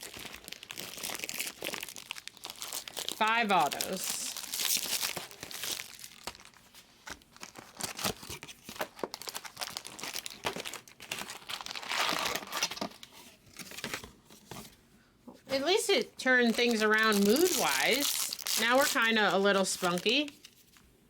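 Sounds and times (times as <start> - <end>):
packaging crinkling and tearing: 0.0 - 14.1, 16.4 - 20.8.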